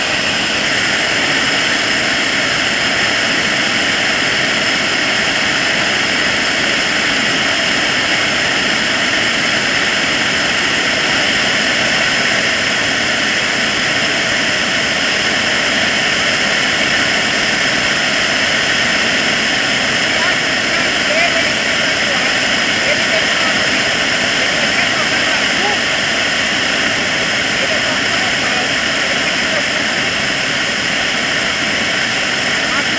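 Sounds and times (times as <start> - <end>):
high turbine whine: 0.0 - 32.9
jet turbine running: 0.0 - 32.9.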